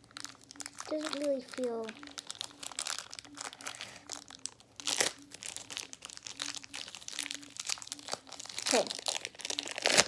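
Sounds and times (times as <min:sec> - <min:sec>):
putty crinkling and crackling: 0:00.0 - 0:10.0.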